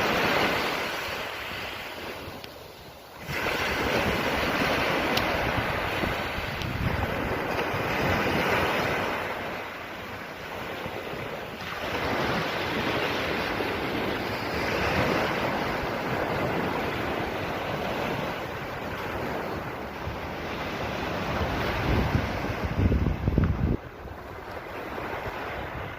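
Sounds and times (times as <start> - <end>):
sea waves breaking on shore: 0.0 - 25.9
wind rumble on microphone: 0.0 - 25.9.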